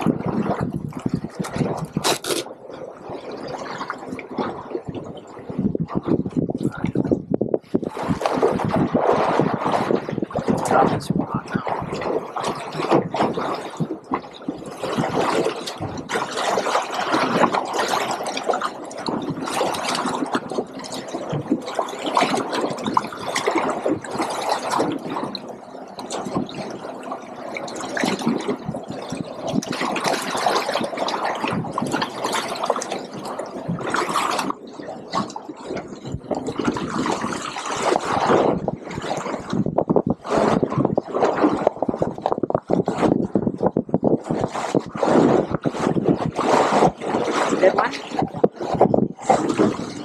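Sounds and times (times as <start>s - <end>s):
waves splashing against boat hull: 0.0s - 50.0s.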